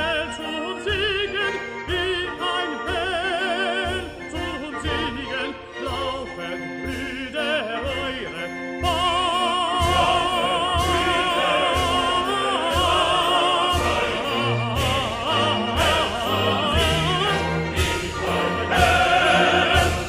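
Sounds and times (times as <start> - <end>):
operatic solo voice singing: 0.0 - 20.0
orchestra accompaniment: 0.0 - 20.0.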